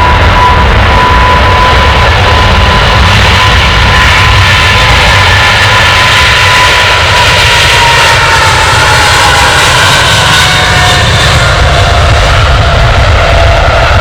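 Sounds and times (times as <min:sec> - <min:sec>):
jet engines running loud: 0:00.0 - 0:14.0.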